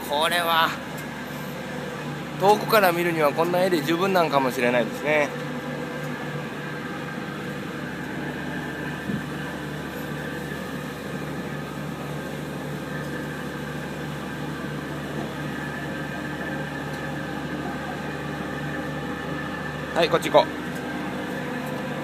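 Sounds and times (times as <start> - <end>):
ship machinery hum: 0.0 - 22.0.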